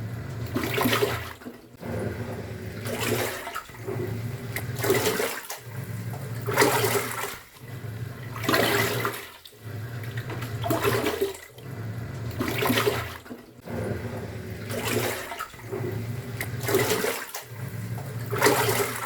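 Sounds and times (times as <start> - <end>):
washing machine motor humming: 0.0 - 19.0
water sloshing: 0.0 - 19.0.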